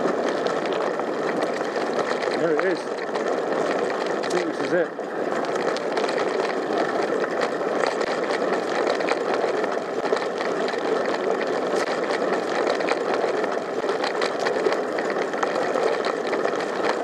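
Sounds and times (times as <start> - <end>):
bicycle clicks and rattles: 0.0 - 17.0
bicycle tyres rumbling on dirt: 0.0 - 17.0.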